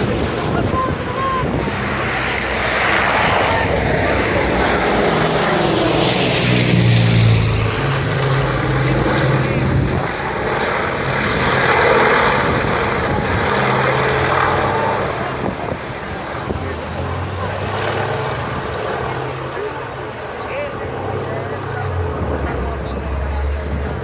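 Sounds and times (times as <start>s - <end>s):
propeller aircraft engine drone: 0.0s - 24.0s.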